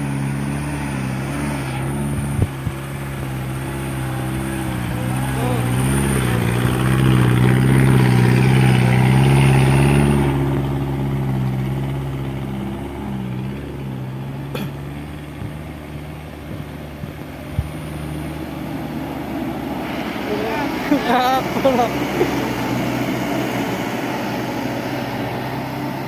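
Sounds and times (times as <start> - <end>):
diesel truck engine under load: 0.0 - 26.0.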